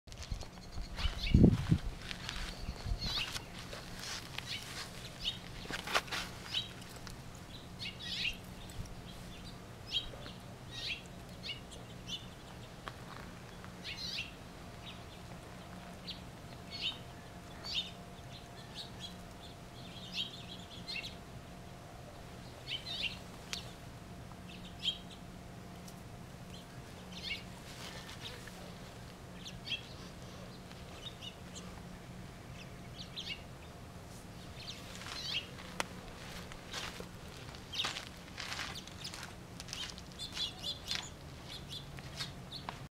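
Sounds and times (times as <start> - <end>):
small birds chirping: 0.1 - 42.8
faint low hum: 0.1 - 42.9.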